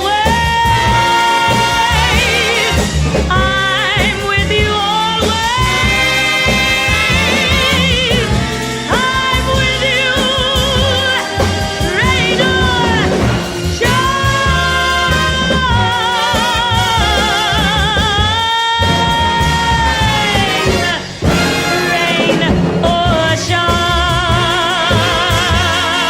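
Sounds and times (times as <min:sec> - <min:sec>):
orchestra playing: 0:00.0 - 0:26.0
woman singing a ballad: 0:00.0 - 0:26.0.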